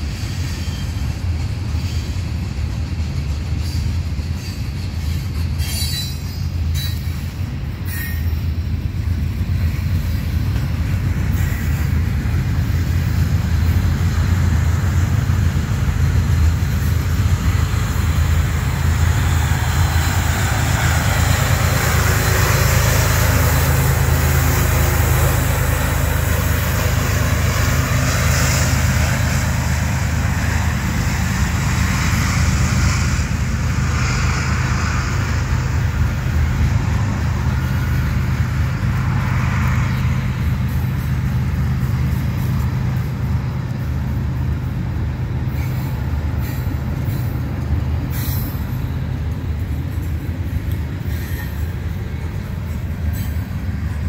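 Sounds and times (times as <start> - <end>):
freight cars wheels on rails: 0.0 - 54.0
locomotive engine drone: 0.0 - 54.0.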